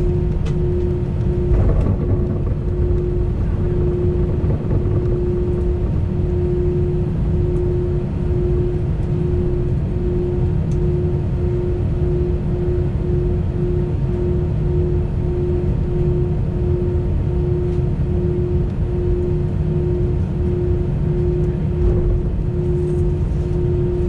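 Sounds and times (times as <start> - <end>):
jet engines rumbling: 0.0 - 24.0
steady engine hum: 0.0 - 24.0.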